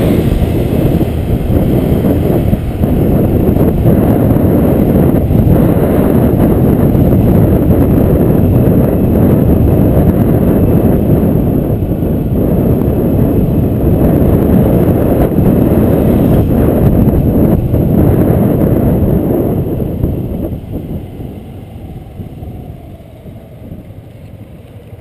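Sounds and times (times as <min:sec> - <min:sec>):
road and engine noise: 0:00.0 - 0:25.0
wind buffeting microphone: 0:00.0 - 0:25.0.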